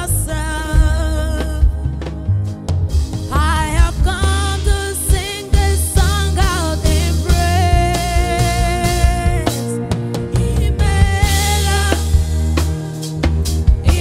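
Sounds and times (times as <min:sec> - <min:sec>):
woman singing lead: 0:00.0 - 0:02.4, 0:03.3 - 0:12.8, 0:13.7 - 0:14.0
band with steady bass: 0:00.0 - 0:14.0.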